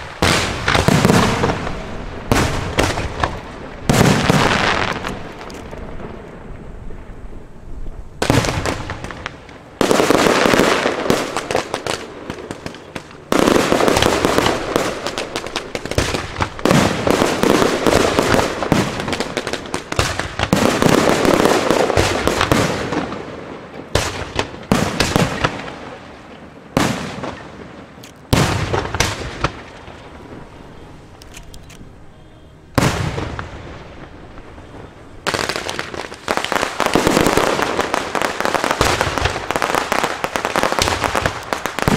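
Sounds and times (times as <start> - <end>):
fireworks crackling and popping: 0.0 - 31.8, 32.8 - 41.9
fireworks bursting: 0.0 - 41.9.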